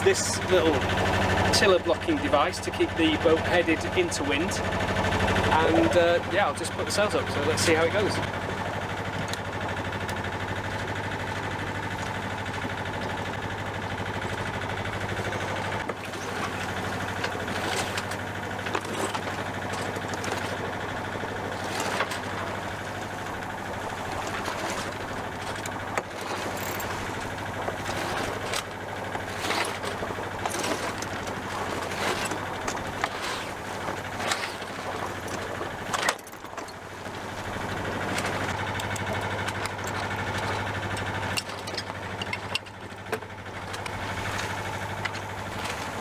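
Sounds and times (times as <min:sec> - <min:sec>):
boat engine running: 0:00.0 - 0:46.0
sail flapping and rustling: 0:00.0 - 0:46.0.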